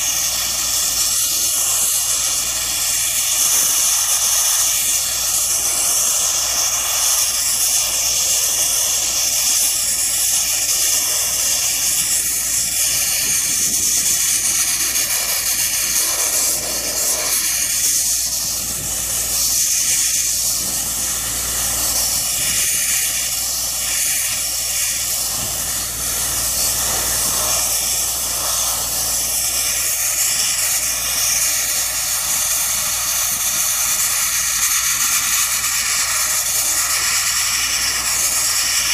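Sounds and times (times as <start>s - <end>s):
sandblaster hissing: 0.0s - 38.9s.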